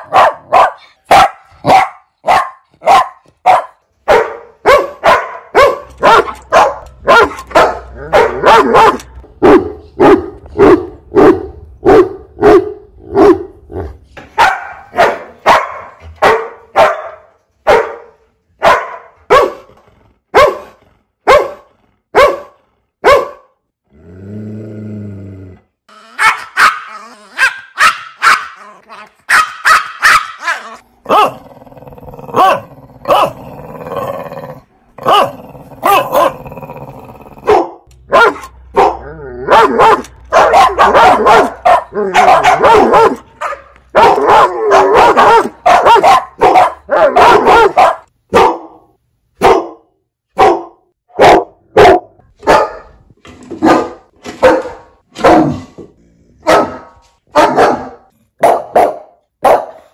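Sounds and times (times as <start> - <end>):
dog barking loudly: 0.0 - 19.7, 20.3 - 23.6, 26.2 - 31.5, 32.2 - 33.5, 35.0 - 36.5, 37.4 - 53.0, 53.6 - 55.7, 56.4 - 59.9.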